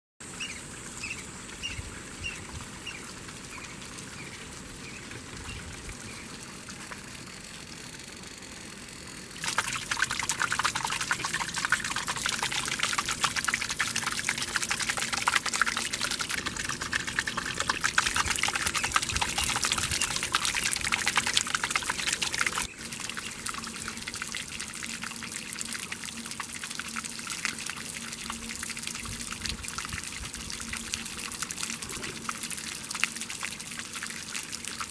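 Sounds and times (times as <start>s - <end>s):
water splashing and pouring: 0.2s - 7.7s, 9.4s - 34.9s.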